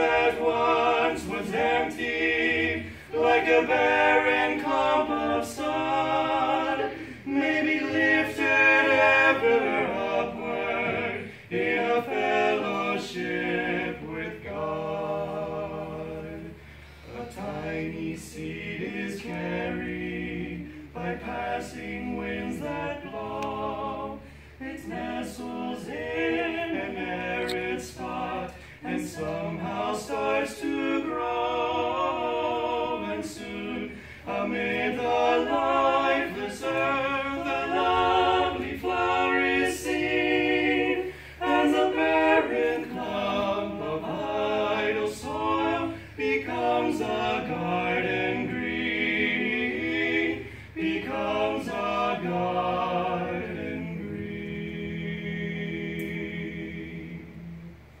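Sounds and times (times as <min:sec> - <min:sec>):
a cappella group singing a hymn: 0:00.0 - 0:58.0.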